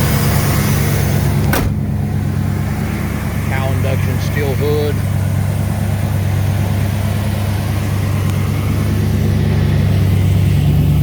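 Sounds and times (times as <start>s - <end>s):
pickup truck engine idling: 0.0s - 11.0s.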